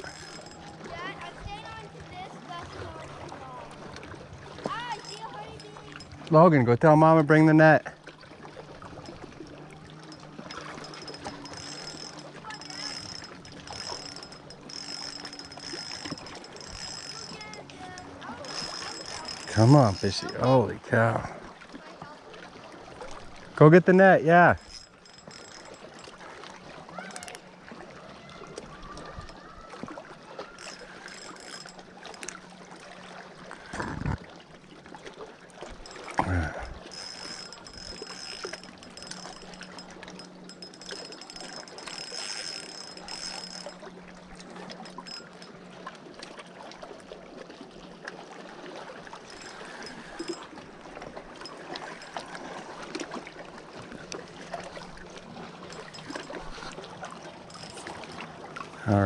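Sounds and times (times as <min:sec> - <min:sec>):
water lapping and trickling: 0:00.0 - 0:59.0.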